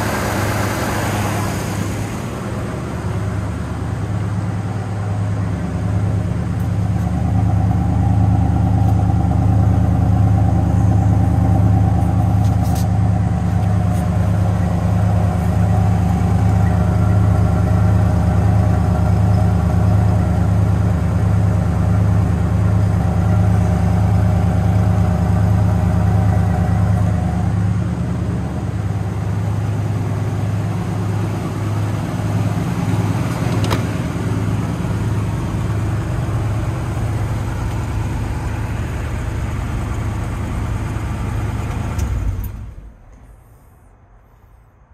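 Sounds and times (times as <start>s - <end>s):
pickup engine idling: 0.0s - 43.9s.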